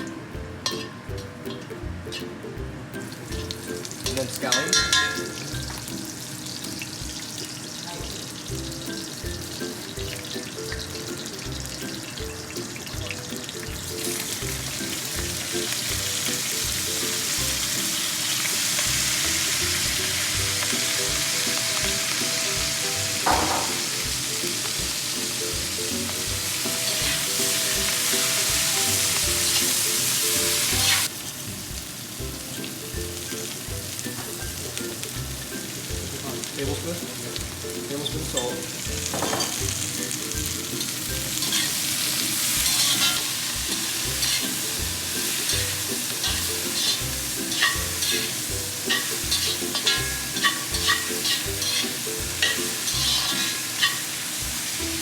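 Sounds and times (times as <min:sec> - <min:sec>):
background music: 0:00.0 - 0:55.0
vegetables sizzling in hot oil: 0:00.0 - 0:55.0.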